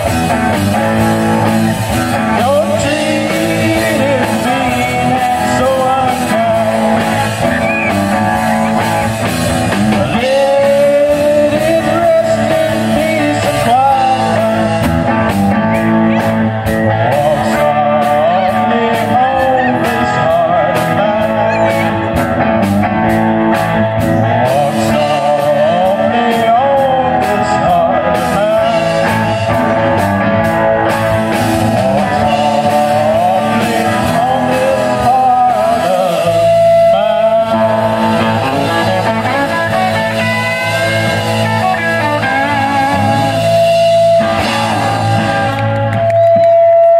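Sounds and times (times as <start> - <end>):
bending electric guitar lead: 0.0 - 46.9
live rock band playing: 0.0 - 46.9.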